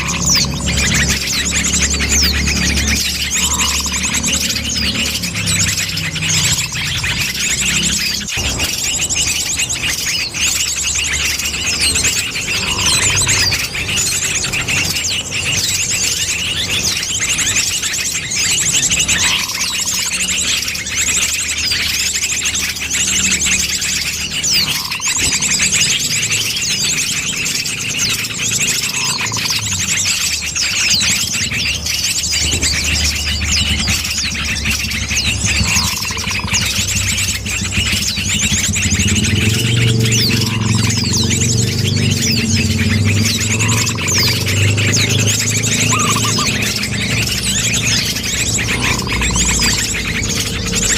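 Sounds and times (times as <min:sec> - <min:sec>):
small birds chirping and trilling: 0:00.0 - 0:50.9.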